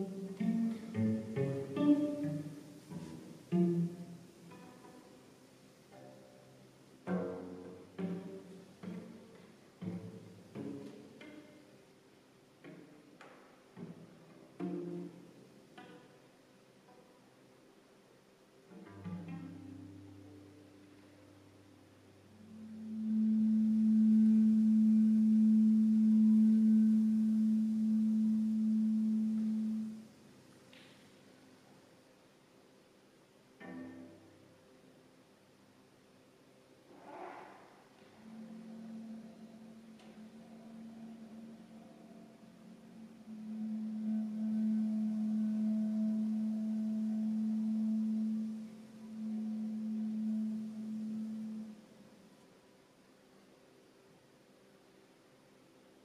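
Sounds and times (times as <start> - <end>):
cello long bowed note: 0.0 - 11.8, 12.6 - 17.3, 18.7 - 31.8, 33.6 - 34.6, 36.9 - 52.9.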